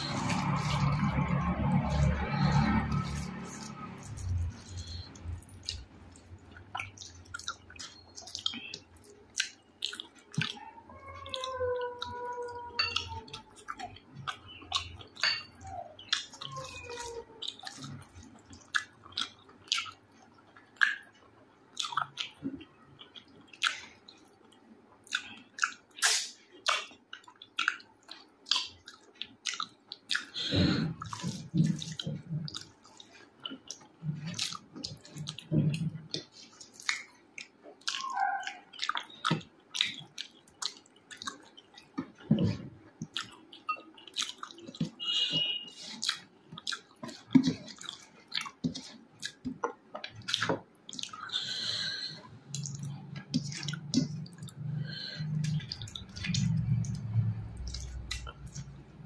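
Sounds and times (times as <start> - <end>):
wet chewing mouth sounds: 0.0 - 59.0.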